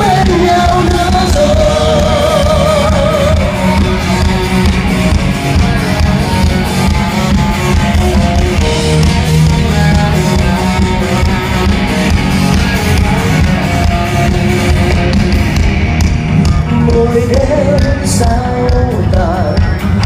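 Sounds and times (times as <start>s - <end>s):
bass guitar: 0.0s - 20.0s
drums: 0.0s - 20.0s
electric guitar melody: 0.0s - 20.0s.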